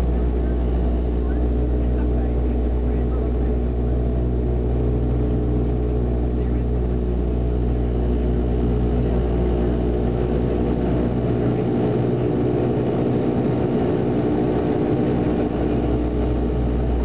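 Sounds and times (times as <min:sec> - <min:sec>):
deep rumble: 0:00.0 - 0:17.0
turboprop engines droning in cabin: 0:00.0 - 0:17.0.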